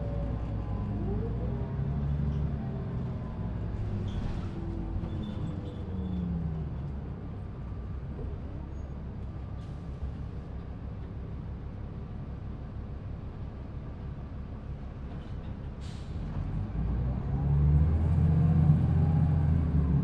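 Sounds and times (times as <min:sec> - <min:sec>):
diesel bus running: 0:00.0 - 0:20.0.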